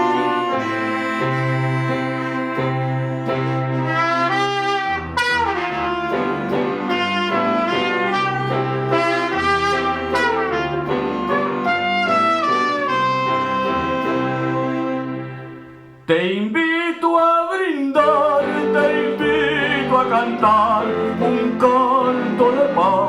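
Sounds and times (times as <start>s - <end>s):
saxophone melody: 0.0s - 16.0s, 18.0s - 22.1s
trumpet melody: 0.0s - 16.1s, 18.0s - 23.0s.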